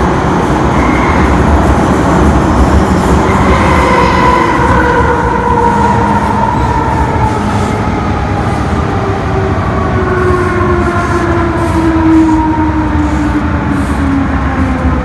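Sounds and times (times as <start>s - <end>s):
train traction motors whining: 0.0s - 15.0s
wheel and track rumble: 0.0s - 15.0s.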